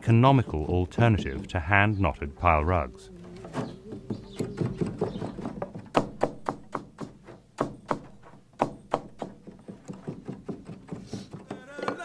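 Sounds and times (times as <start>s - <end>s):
wooden taps from rug loom: 0.3s - 1.8s, 3.4s - 12.0s.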